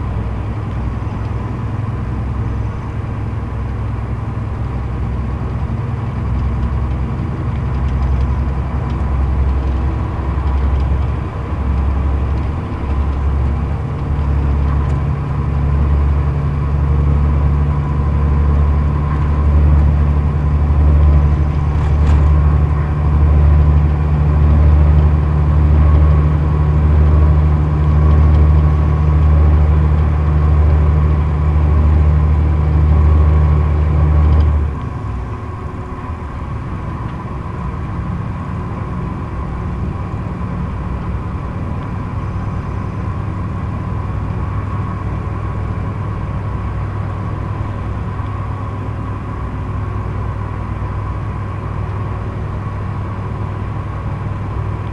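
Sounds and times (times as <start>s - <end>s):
diesel engine drone: 0.0s - 54.9s
road and tyre noise: 0.0s - 54.9s.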